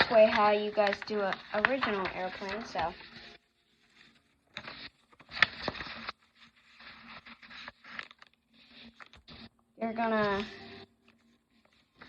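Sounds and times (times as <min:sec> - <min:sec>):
paper crackle: 0:00.0 - 0:12.0
paper rustling and creasing: 0:00.0 - 0:12.0.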